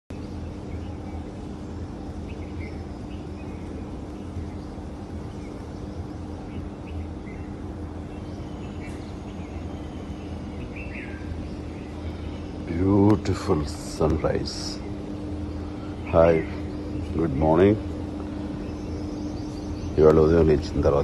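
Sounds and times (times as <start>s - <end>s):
birds chirping: 0.1s - 21.0s
steady low hum: 0.1s - 21.0s.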